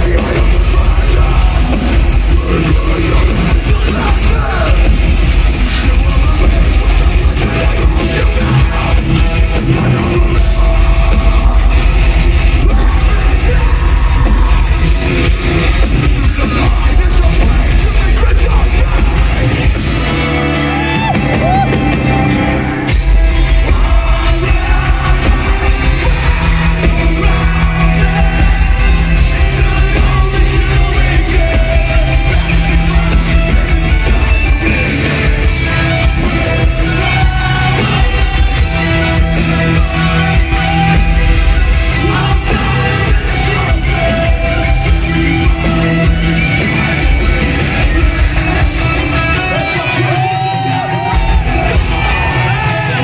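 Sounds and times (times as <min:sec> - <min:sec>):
distorted guitars: 0:00.0 - 0:53.0
heavy metal band playing live: 0:00.0 - 0:53.0
pounding drums: 0:00.0 - 0:53.0
shouted vocals: 0:00.0 - 0:53.0.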